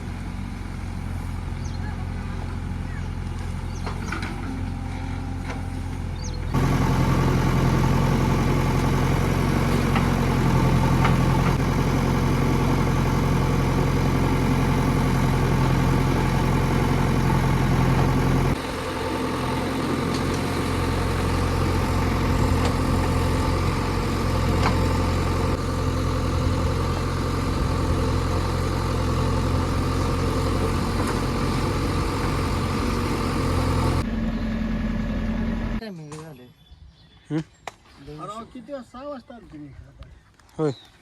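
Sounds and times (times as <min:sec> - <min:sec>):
diesel engine idling: 0:00.0 - 0:35.8.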